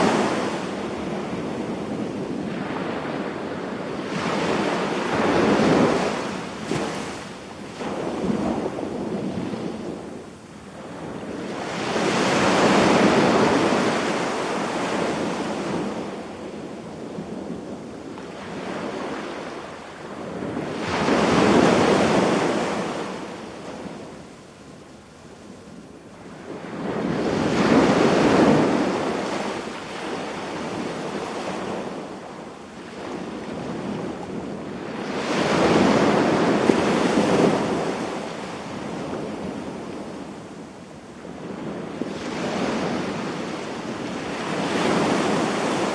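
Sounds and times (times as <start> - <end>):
sea waves breaking on beach: 0.0 - 24.2, 26.2 - 40.5, 41.2 - 45.9
steady wash of surf: 0.0 - 45.9.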